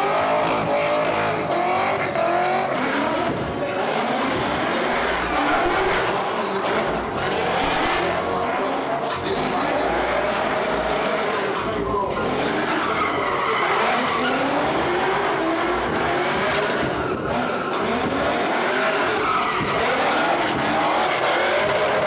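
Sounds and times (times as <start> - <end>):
car engine revving: 0.0 - 22.0
tires skidding and screeching: 0.0 - 22.0.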